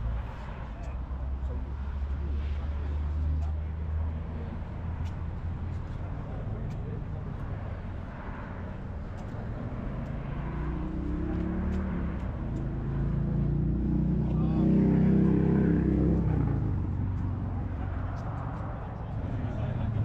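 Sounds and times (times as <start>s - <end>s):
vehicle engine passing slowly: 0.0s - 20.0s.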